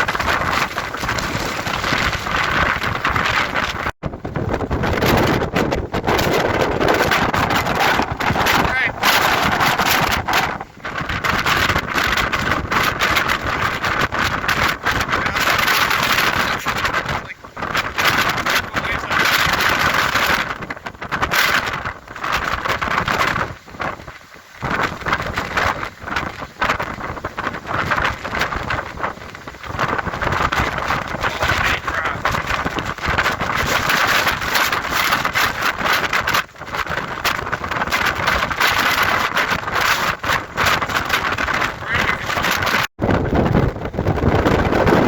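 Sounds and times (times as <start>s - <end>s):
strong wind buffeting microphone: 0.0s - 45.0s.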